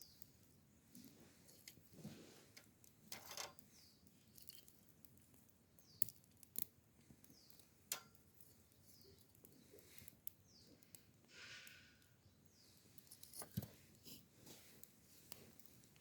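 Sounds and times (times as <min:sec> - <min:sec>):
faint campfire crackling: 0:00.0 - 0:16.0.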